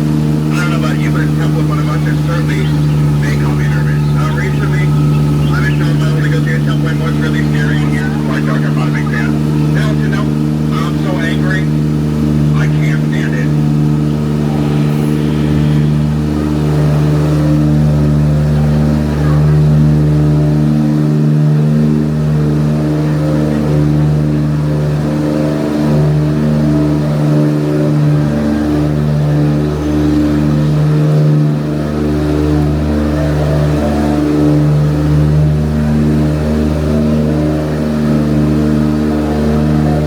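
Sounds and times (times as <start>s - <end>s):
boat engine droning: 0.0s - 40.0s.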